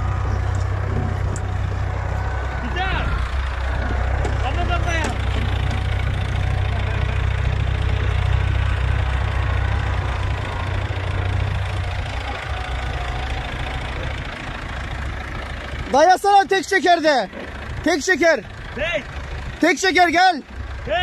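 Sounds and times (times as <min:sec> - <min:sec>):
tractor diesel engine rumbling: 0:00.0 - 0:21.0.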